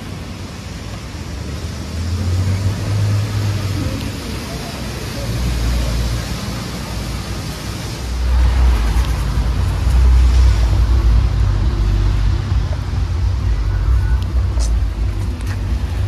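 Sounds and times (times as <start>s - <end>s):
low traffic rumble: 0.0s - 16.0s
tyres hissing on wet road: 0.0s - 16.0s.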